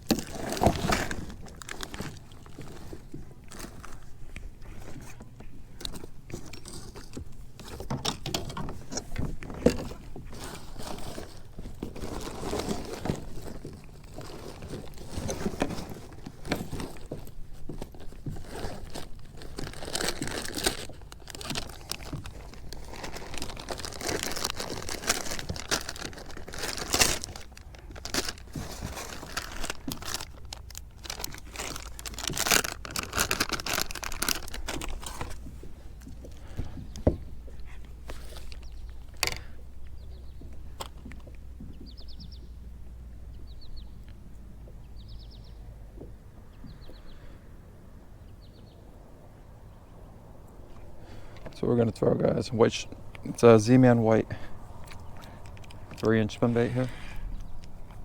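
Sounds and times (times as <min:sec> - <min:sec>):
crinkling and rustling: 0:00.0 - 0:47.0, 0:50.4 - 0:58.0.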